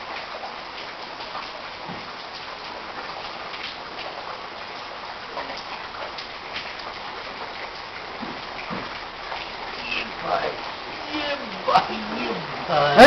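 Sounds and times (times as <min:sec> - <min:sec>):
floodwater rushing: 0:00.0 - 0:13.0
water splashes and drips: 0:00.0 - 0:13.0.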